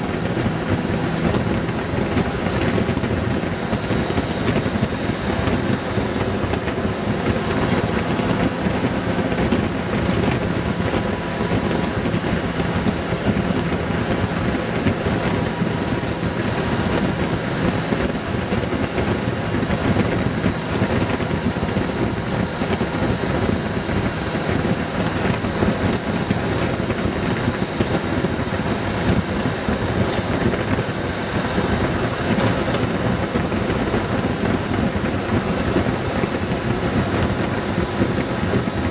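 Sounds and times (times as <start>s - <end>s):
motorcycle engine hum: 0.0s - 38.9s
wind rushing over microphone: 0.0s - 38.9s.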